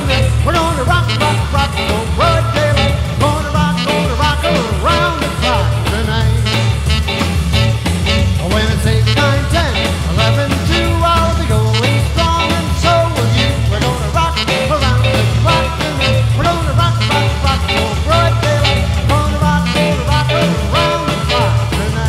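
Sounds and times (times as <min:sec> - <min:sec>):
upbeat song with singing: 0:00.0 - 0:22.0.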